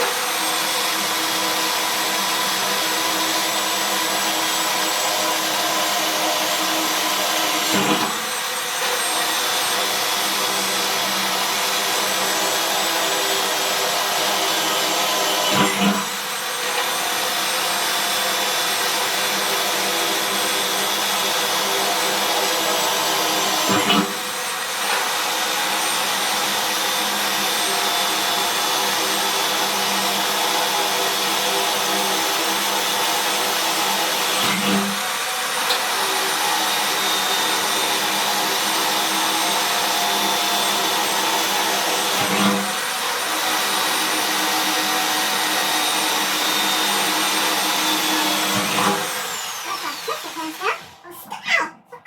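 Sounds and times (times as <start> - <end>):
electric drill whining: 0.0 - 51.1.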